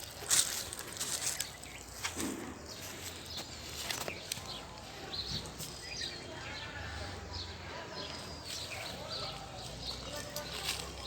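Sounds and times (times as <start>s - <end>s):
bird chirps: 0.1s - 11.0s.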